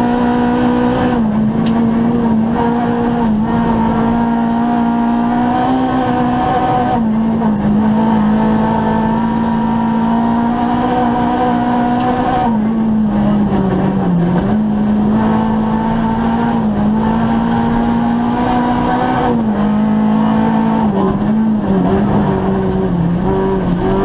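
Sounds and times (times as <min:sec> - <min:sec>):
rally car engine from cabin: 0:00.0 - 0:24.0.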